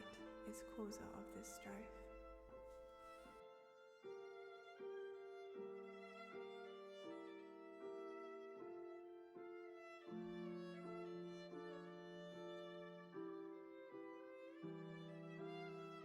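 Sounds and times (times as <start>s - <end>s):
slow violin music: 0.0s - 16.0s.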